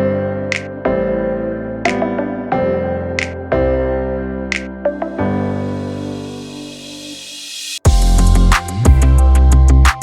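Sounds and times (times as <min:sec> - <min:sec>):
electric piano chords over beat: 0:00.0 - 0:07.2, 0:07.9 - 0:10.0.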